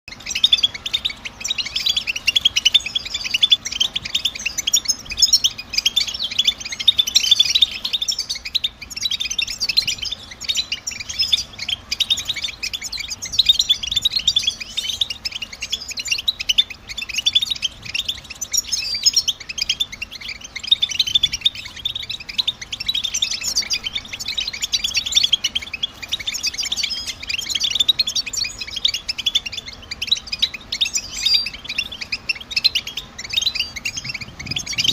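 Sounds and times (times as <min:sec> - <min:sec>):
finches twittering: 0:00.1 - 0:34.9.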